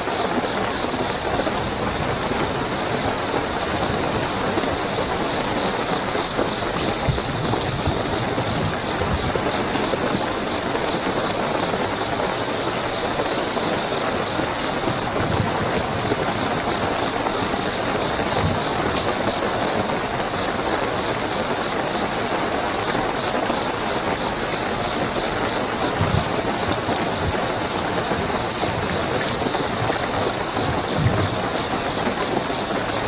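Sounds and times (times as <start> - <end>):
crickets chirping: 0.0 - 33.0
heavy rainfall: 0.0 - 33.0.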